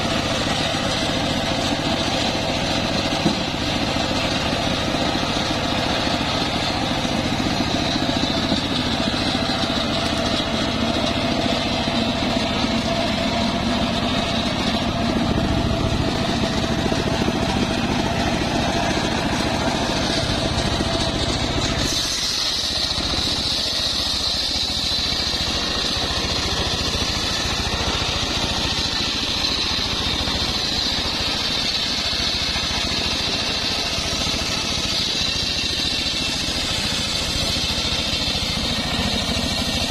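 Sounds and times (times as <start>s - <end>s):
engine drone: 0.0s - 39.9s
saw blade whine: 0.0s - 39.9s.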